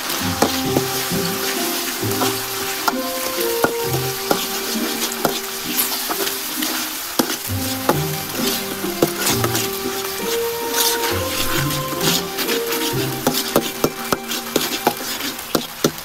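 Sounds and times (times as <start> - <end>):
background music: 0.0 - 16.0
hot oil sizzling: 0.0 - 16.0
metal spoon scraping wok: 0.1 - 16.0.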